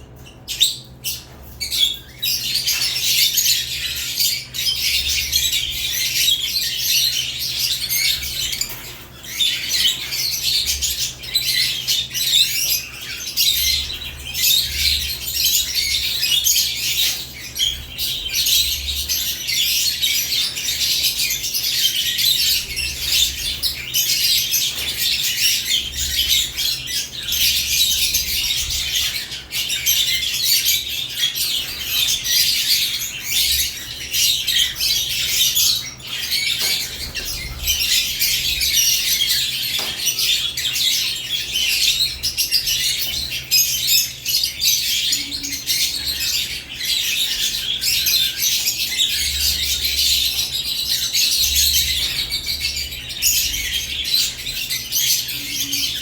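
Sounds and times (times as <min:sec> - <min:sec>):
lovebirds chirping and twittering: 0:00.0 - 0:56.0.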